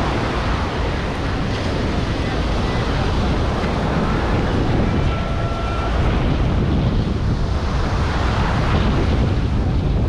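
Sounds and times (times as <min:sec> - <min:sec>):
surf: 0:00.0 - 0:10.0
wind buffeting microphone: 0:00.0 - 0:10.0.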